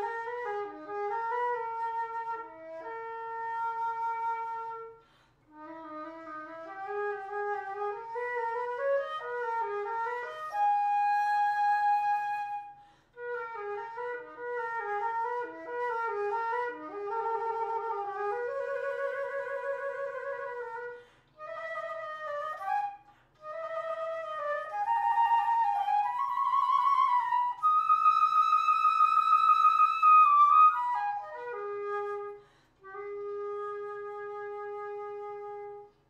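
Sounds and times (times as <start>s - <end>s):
solo flute melody: 0.0s - 36.0s.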